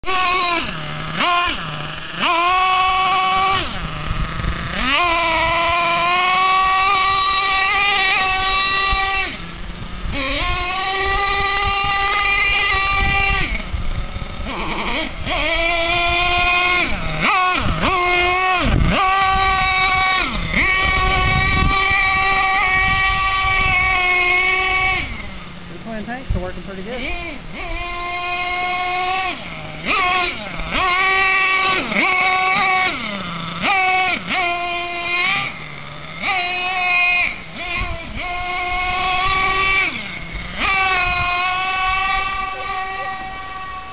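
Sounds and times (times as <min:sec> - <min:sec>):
toy truck nitro engine revving: 0:00.0 - 0:43.9.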